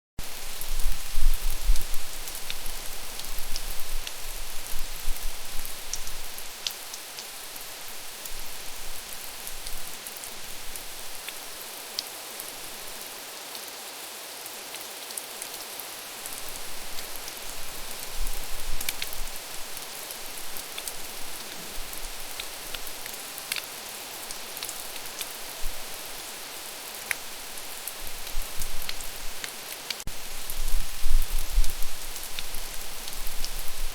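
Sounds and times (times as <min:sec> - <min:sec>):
steady rain hiss: 0:00.2 - 0:33.9.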